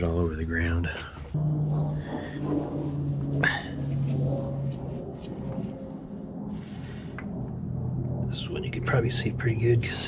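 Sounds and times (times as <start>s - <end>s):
aircraft drone overhead: 0.0s - 10.0s.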